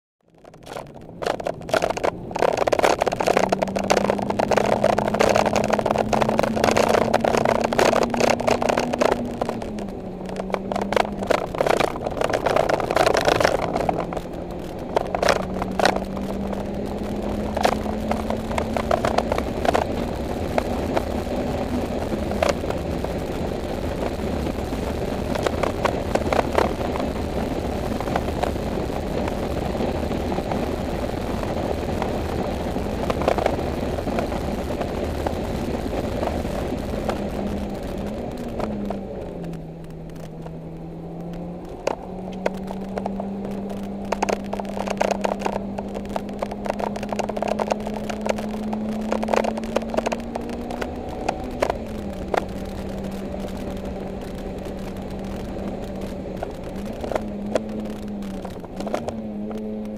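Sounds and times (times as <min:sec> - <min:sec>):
sharp clicks: 0:00.2 - 0:30.6, 0:31.2 - 0:59.9
car engine revving: 0:00.2 - 0:59.9
road and wind noise: 0:00.2 - 0:59.9.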